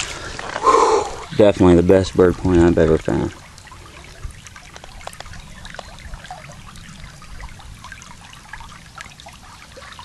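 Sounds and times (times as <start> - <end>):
water trickling over stones: 0.0 - 10.0.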